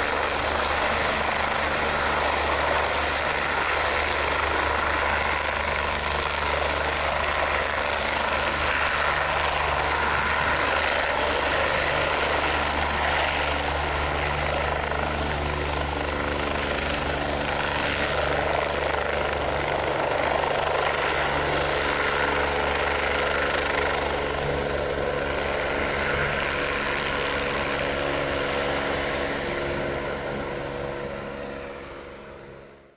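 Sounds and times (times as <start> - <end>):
helicopter taking off: 0.0 - 32.9.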